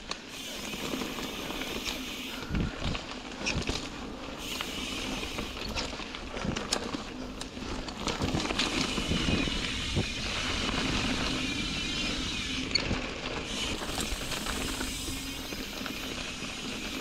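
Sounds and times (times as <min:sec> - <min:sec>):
tyres rolling over dirt and stones: 0:00.0 - 0:17.0.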